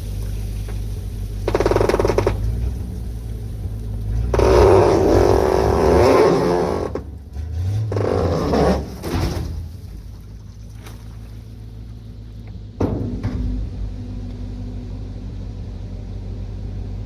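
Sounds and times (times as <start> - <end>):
truck engine running under load: 0.0 - 17.0.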